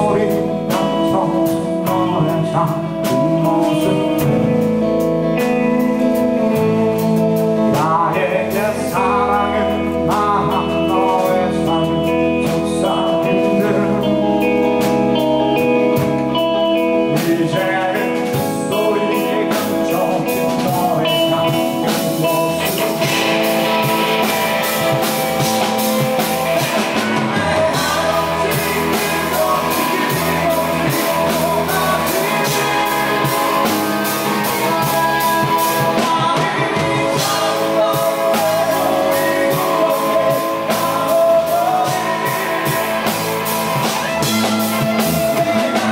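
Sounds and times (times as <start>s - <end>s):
live rock band playing: 0.0s - 45.9s
man singing: 0.0s - 45.9s.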